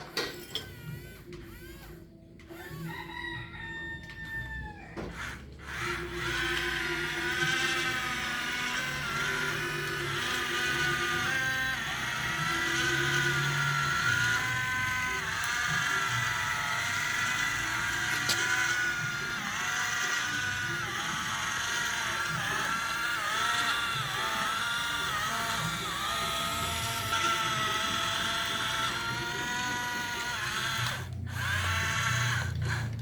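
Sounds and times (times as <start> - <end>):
small electric motors whining: 0.0 - 33.0.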